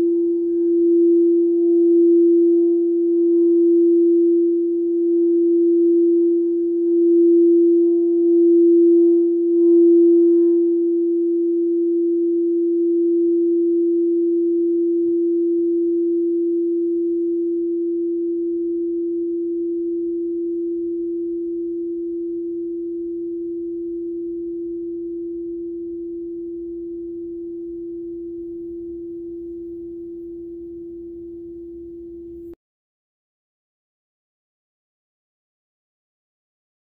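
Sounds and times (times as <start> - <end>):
singing bowl ringing: 0.0 - 32.6.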